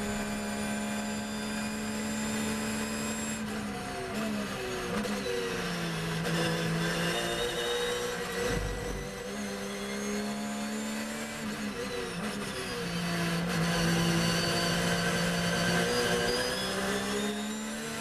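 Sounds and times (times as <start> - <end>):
race car engine at speed: 0.0 - 18.0.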